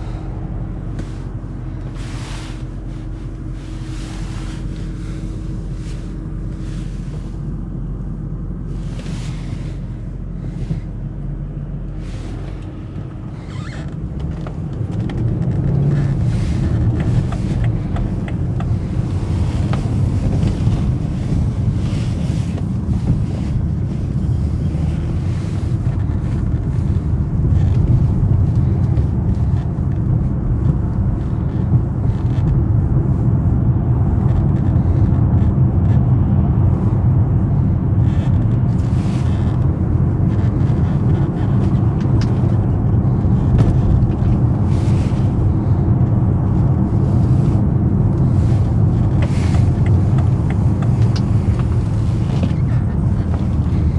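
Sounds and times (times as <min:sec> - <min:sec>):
car engine rumbling: 0:00.0 - 0:53.9
road and wind noise: 0:00.0 - 0:53.9.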